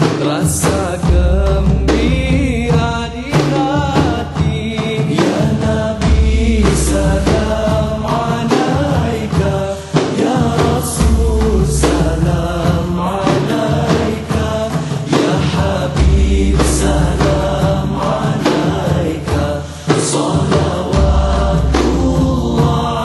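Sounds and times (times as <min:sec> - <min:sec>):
voices singing: 0:00.0 - 0:23.0.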